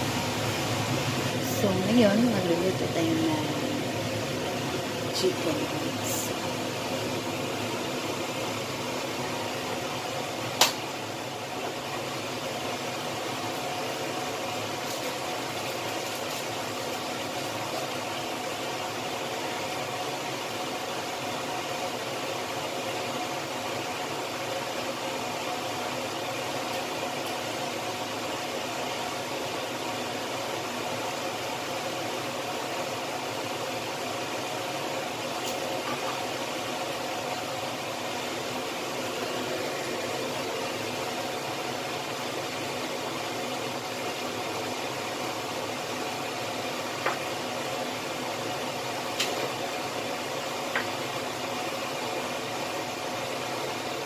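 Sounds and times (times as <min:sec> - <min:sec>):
stove whirring hiss: 0:00.0 - 0:54.0.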